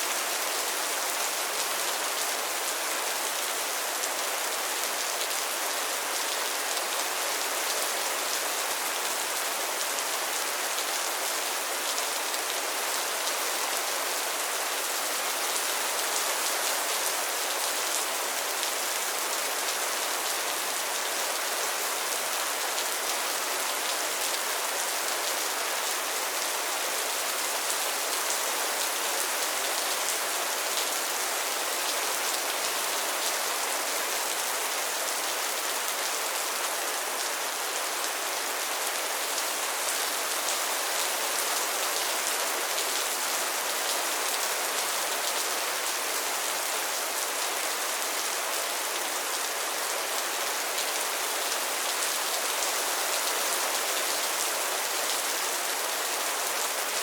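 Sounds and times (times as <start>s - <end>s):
rain falling on pond water: 0.0s - 57.0s.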